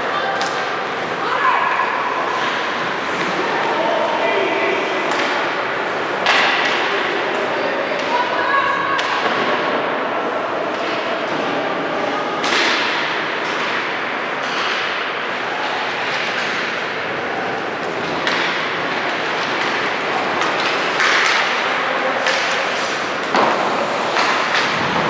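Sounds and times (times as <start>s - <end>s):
din of crowd and players: 0.0s - 25.0s.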